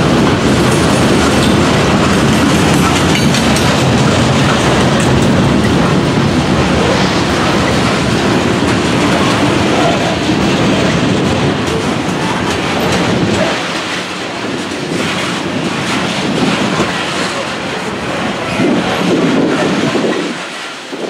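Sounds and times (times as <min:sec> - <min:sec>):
freight train wheels clattering: 0:00.0 - 0:21.0.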